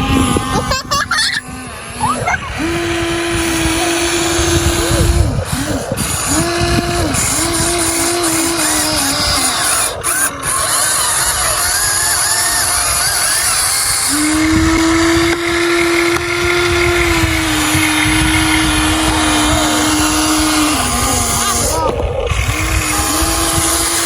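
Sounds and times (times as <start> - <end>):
small electric motors whining: 0.0 - 24.0
steady noisy background: 0.0 - 24.0.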